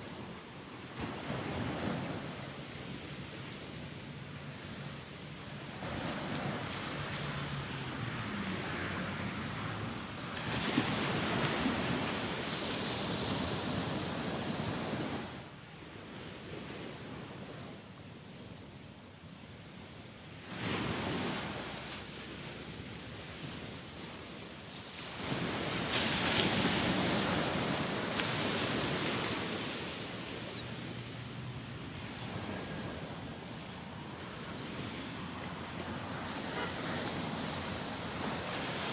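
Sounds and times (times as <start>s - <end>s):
surf washing on shore: 0.0s - 38.9s
waves breaking on a beach: 0.0s - 38.9s.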